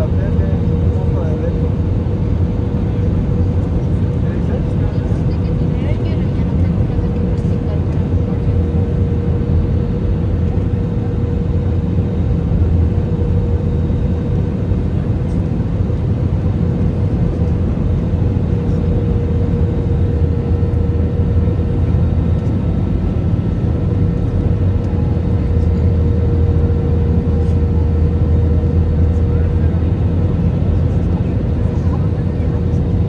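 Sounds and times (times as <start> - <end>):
airplane cabin rumble: 0.0 - 33.0.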